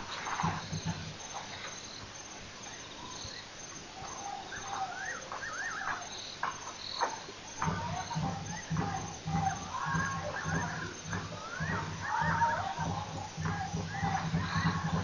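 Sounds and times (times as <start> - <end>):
crickets chirping: 0.0 - 15.0
bird calling: 2.7 - 15.0.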